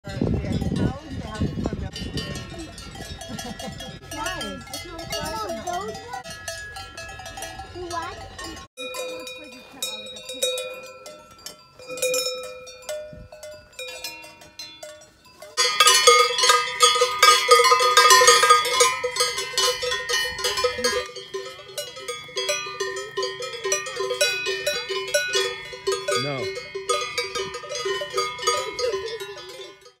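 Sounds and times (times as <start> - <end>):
cowbells clanking: 0.0 - 30.0.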